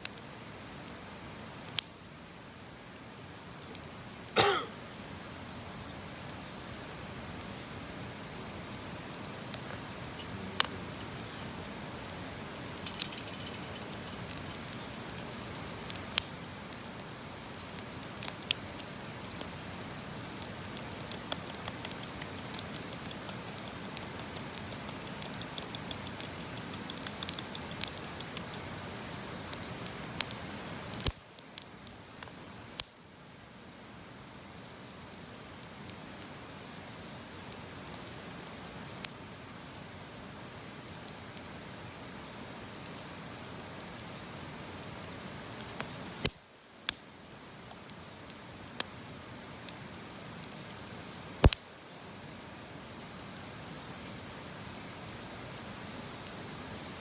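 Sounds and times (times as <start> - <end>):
campfire crackling: 0.0 - 57.0
steady hiss: 0.0 - 57.0.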